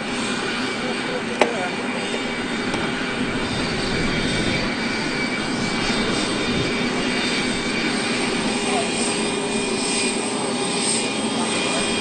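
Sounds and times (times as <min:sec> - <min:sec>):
aircraft turbine whine: 0:00.0 - 0:12.0.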